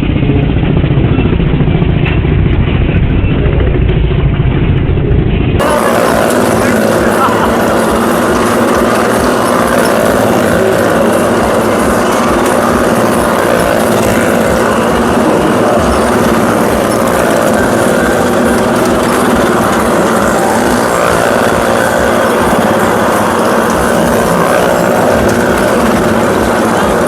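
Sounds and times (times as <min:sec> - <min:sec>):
motorcycle and car engines: 0:00.0 - 0:27.0.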